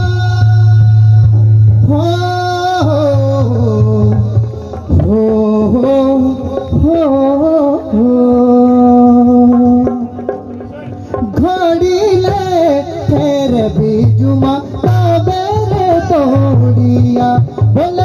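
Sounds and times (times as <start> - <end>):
dhol drum beat: 0.0 - 18.0.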